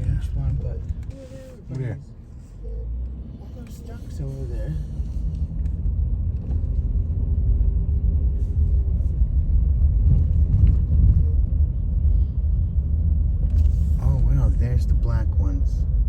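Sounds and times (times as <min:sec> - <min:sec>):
car engine rumble from inside: 0:00.0 - 0:16.0.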